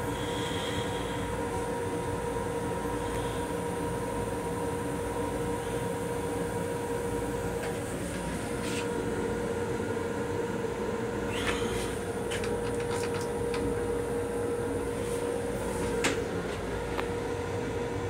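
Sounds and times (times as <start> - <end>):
railcar running rumble and hum: 0.0 - 11.0, 11.8 - 18.0.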